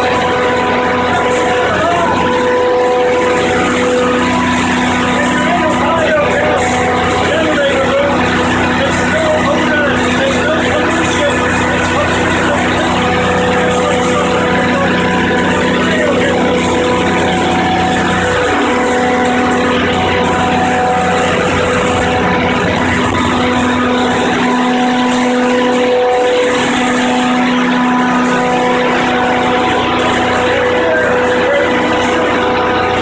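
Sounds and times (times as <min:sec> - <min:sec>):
generator engine humming: 0:00.0 - 0:33.0.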